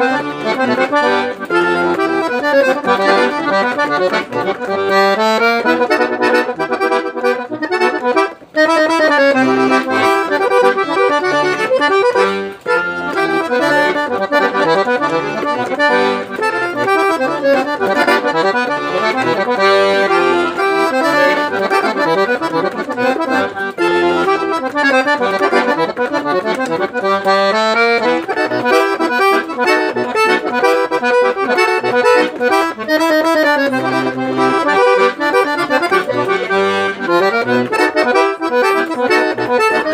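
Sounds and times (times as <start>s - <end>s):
accordion playing: 0.0s - 39.9s.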